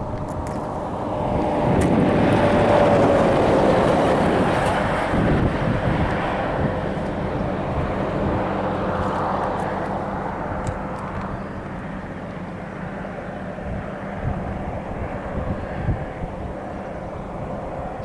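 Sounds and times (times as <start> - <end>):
vehicle rushing with low hum: 0.0 - 18.0.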